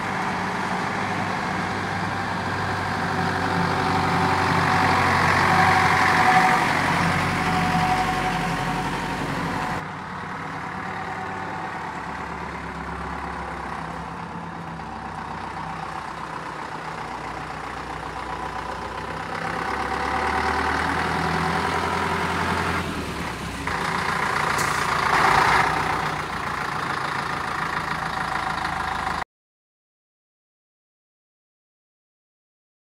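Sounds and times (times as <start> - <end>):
diesel truck engine running: 0.0 - 29.2.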